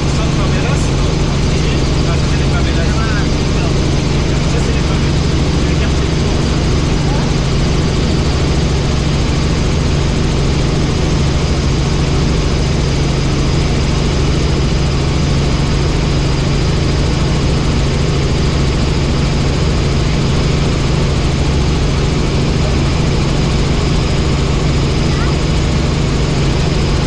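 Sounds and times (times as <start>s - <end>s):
helicopter engine and rotor drone: 0.0s - 27.0s.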